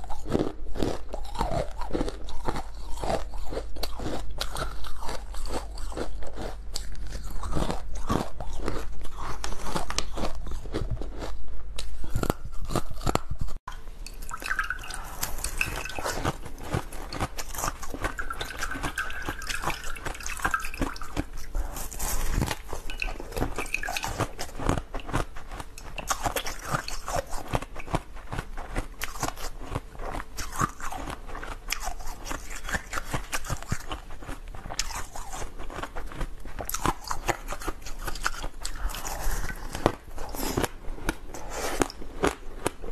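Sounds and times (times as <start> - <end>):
ice crunching being chewed: 0.0 - 42.9.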